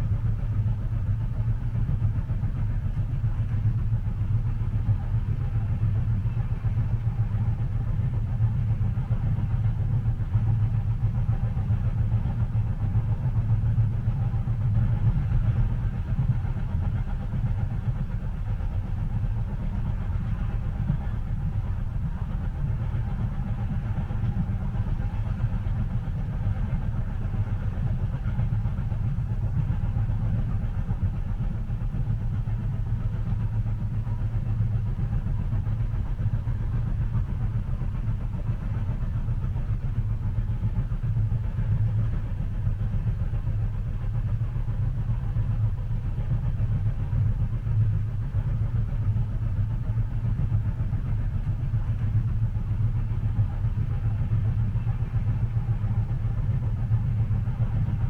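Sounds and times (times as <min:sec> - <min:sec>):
train rumbling inside cabin: 0:00.0 - 0:58.0.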